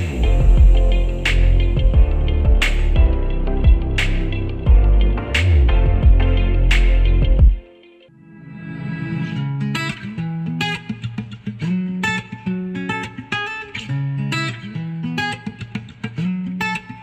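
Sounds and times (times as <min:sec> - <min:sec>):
plucked guitar music: 0:00.0 - 0:08.1, 0:09.0 - 0:17.0.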